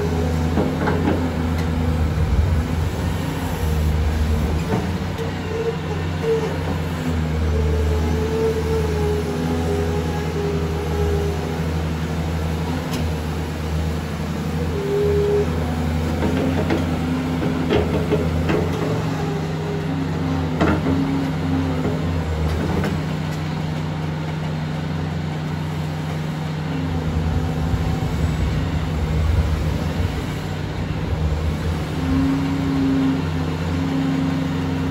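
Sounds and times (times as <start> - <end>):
hydraulic whine: 0.0 - 24.0, 24.9 - 34.9
excavator diesel engine under load: 0.0 - 34.9.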